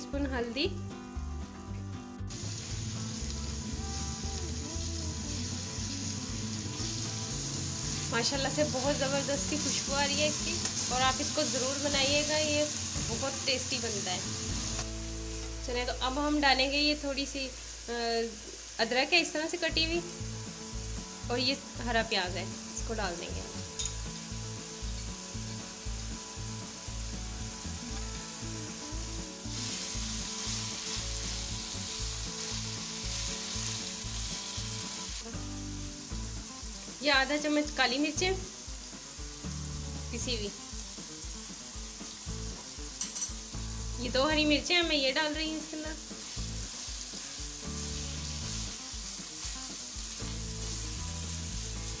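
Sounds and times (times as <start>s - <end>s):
meat sizzling in a wok: 0.4s - 52.0s.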